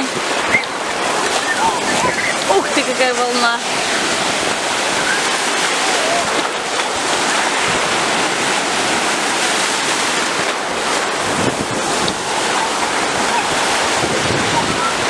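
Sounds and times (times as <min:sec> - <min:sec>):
sea surf breaking: 0:00.0 - 0:15.0.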